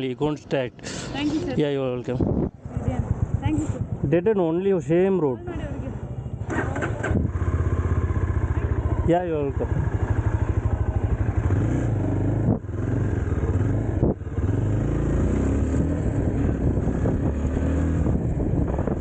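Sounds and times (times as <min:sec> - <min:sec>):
motorcycle engine accelerating: 0:02.2 - 0:04.3, 0:05.6 - 0:19.0.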